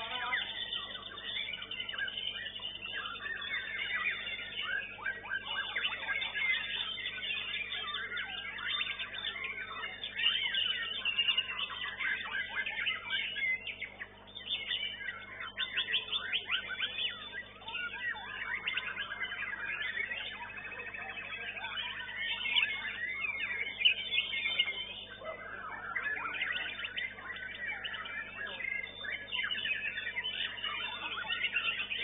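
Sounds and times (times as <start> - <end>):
birds singing whistles: 0.0 - 32.0.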